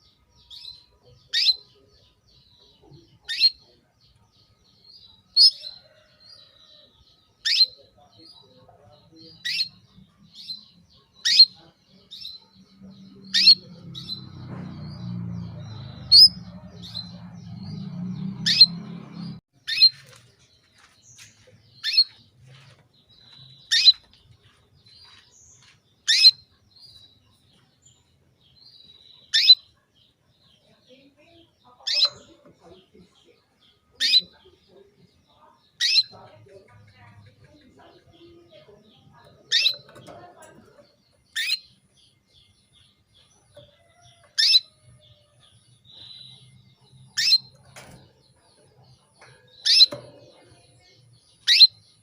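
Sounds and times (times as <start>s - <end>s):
canary chirping: 0.0s - 52.0s.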